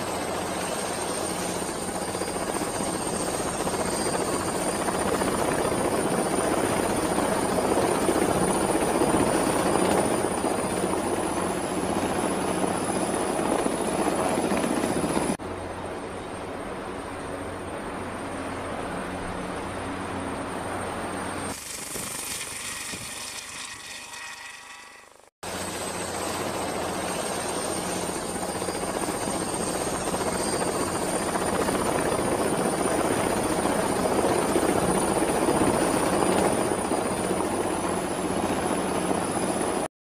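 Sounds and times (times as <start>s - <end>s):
helicopter rotor: 0.0s - 39.9s
high steady turbine whine: 0.0s - 39.9s.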